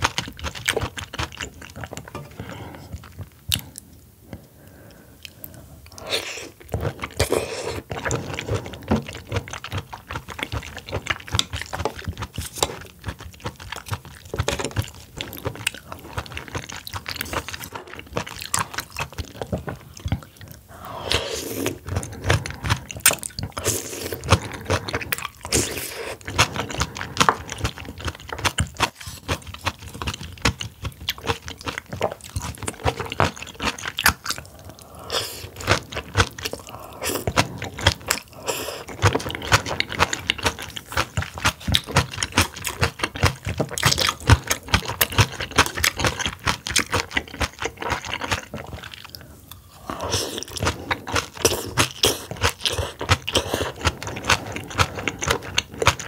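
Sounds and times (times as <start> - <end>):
person chewing with wet clicks: 0.0 - 56.0.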